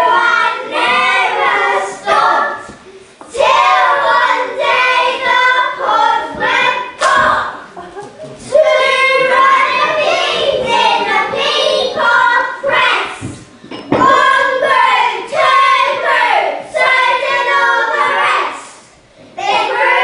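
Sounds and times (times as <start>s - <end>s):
children singing together: 0.0s - 13.4s, 14.0s - 20.0s.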